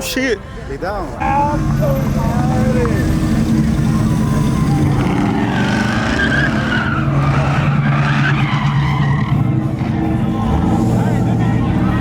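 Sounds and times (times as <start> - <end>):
tires squealing: 0.9 - 12.0
car engine at high revs: 1.2 - 12.0.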